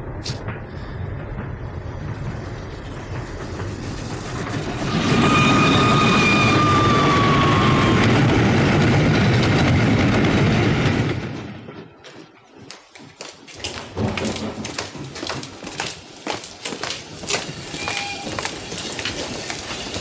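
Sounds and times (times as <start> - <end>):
steam train rumbling: 0.0 - 20.0.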